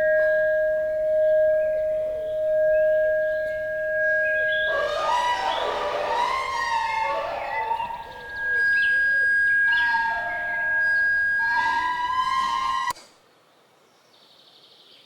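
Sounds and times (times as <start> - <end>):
gliding sustained tones: 0.0 - 13.0
steady high tone: 0.0 - 13.0.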